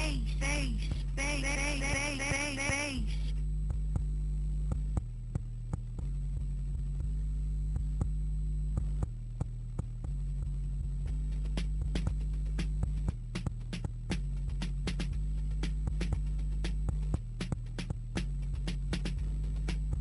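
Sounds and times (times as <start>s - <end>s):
deep sub-bass notes: 0.0s - 20.0s.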